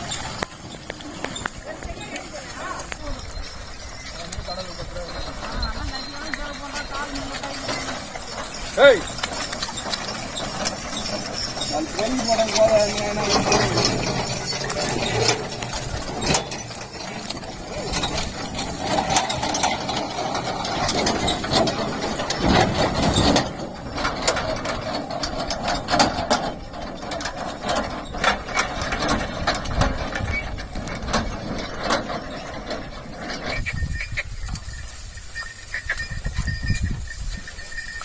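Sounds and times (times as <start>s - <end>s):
clicks and knocks from cart: 0.0s - 34.8s
cart rumbling: 0.0s - 38.0s.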